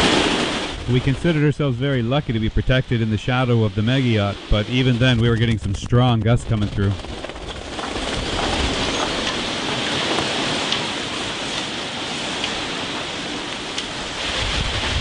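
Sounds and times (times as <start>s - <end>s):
heavy rain: 0.0s - 5.6s, 6.6s - 15.0s
strong wind gusting: 0.0s - 15.0s.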